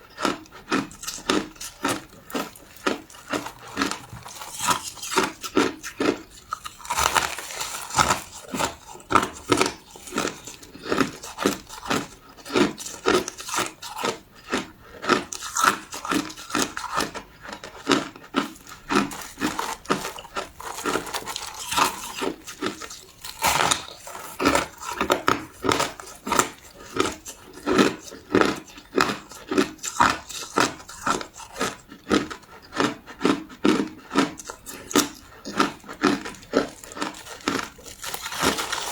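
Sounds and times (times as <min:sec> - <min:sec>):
crushed ice being chewed: 0:00.0 - 0:38.9.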